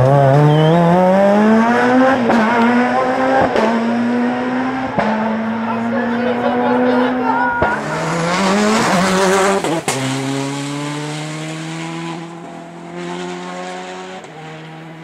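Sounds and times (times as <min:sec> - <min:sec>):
exhaust crack: 0:00.0 - 0:13.5
rally car engine accelerating: 0:00.0 - 0:15.0.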